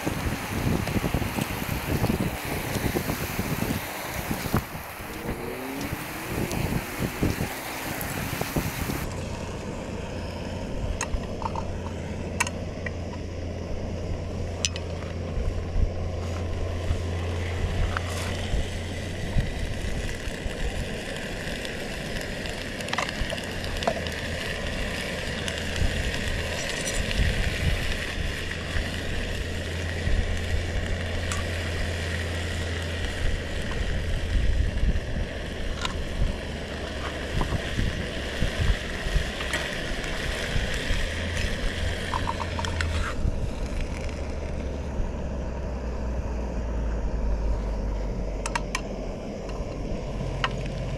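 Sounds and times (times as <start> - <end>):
camp stove rumble and hiss: 0.0 - 50.9.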